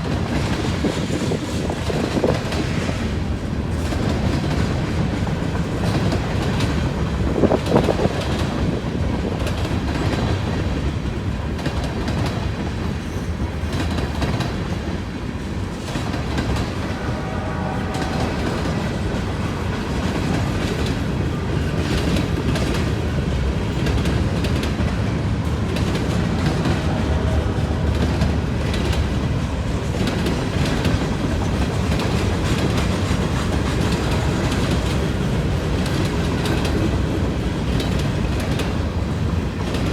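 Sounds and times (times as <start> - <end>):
train wheels clicking over rail joints: 0.0 - 17.0, 17.9 - 39.9
freight train rumble: 0.0 - 39.9.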